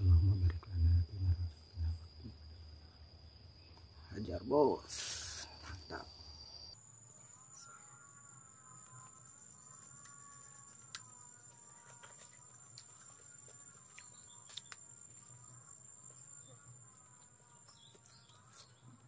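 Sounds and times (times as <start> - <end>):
insects whining: 0.0 - 19.0.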